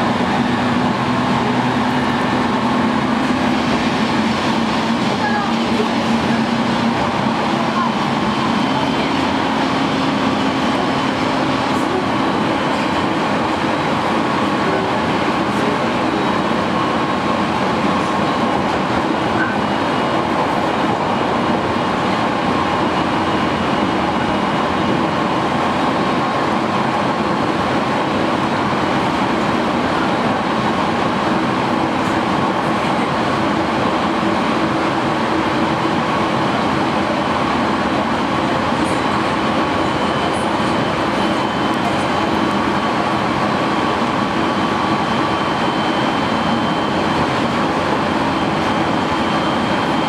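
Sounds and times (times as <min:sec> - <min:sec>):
train rumbling: 0:00.0 - 0:50.0.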